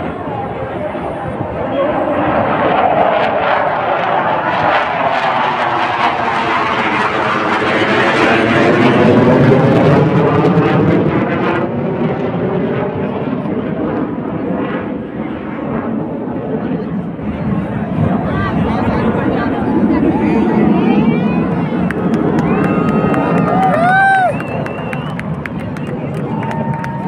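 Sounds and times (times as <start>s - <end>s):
fighter jet flying overhead: 0.0s - 27.0s.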